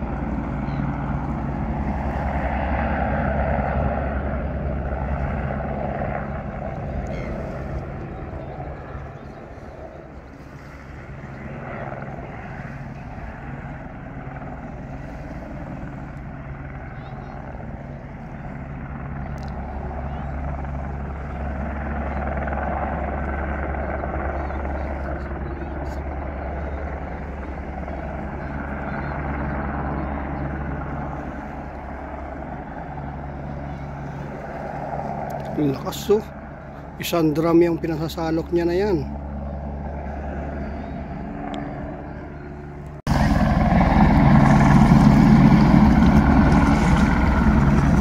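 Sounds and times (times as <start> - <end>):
helicopter rotor and engine: 0.0 - 48.0.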